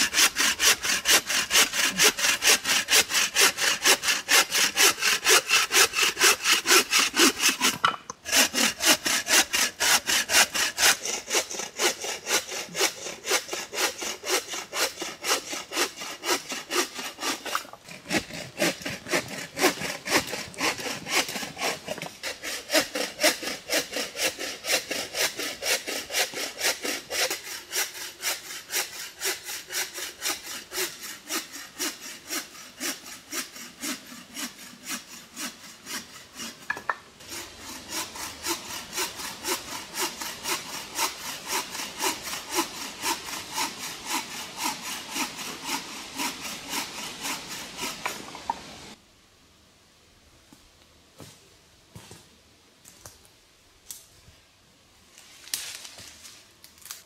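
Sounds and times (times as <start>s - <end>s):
saw cutting through branch: 0.0s - 49.0s.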